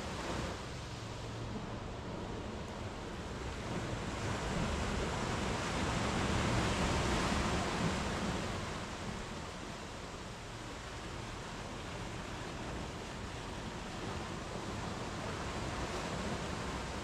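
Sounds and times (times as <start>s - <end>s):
surf breaking on beach: 0.0s - 17.0s.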